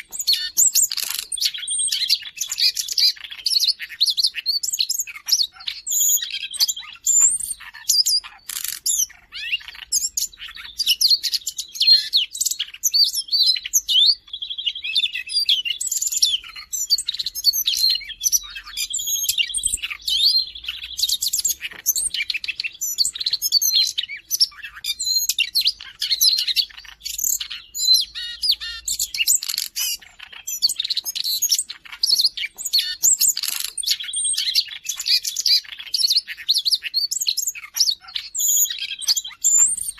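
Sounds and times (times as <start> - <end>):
bird singing: 0.0 - 39.9
buzzy bird trill: 0.0 - 39.9.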